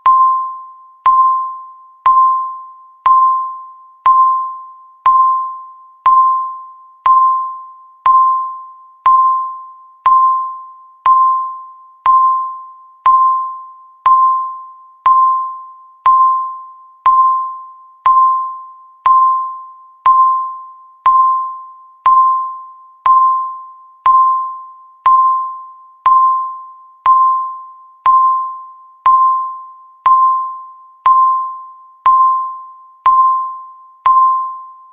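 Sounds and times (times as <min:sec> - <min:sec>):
countdown timer beeps: 0:00.0 - 0:34.9.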